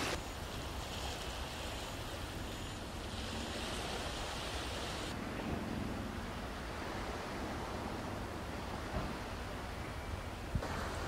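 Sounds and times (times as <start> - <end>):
surf on rocky shore: 0.0 - 9.8, 10.5 - 11.0.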